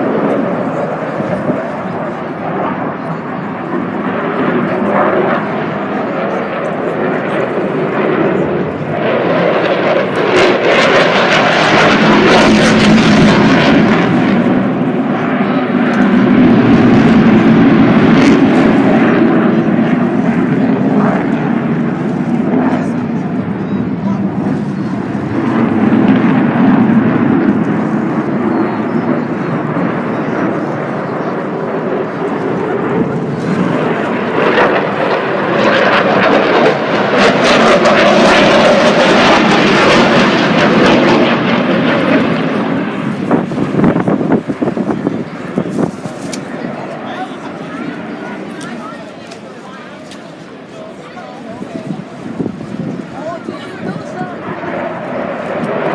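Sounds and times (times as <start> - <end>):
aircraft engine noise: 0.0 - 55.9
plane flying past: 0.0 - 55.9.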